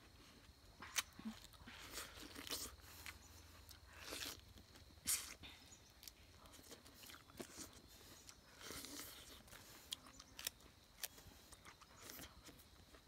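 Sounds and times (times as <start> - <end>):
person chewing grapefruit: 0.0 - 13.0.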